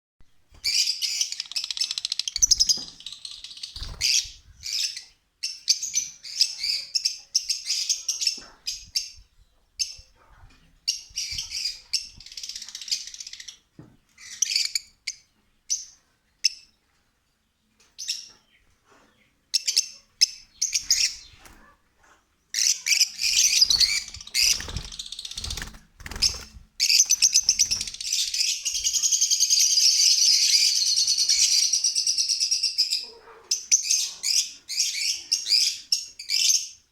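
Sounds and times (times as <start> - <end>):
birds chirping and chattering: 0.5 - 16.8, 17.4 - 36.9.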